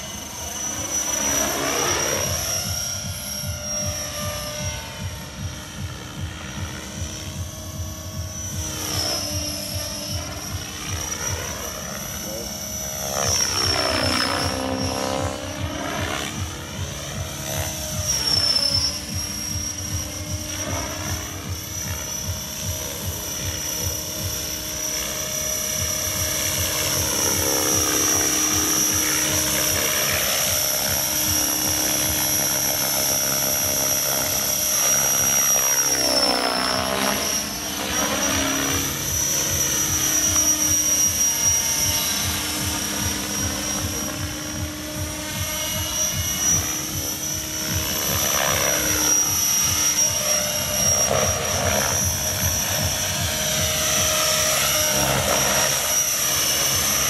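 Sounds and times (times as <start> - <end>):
model helicopter whine: 0.0 - 57.0
rotor blades chopping: 0.0 - 57.0.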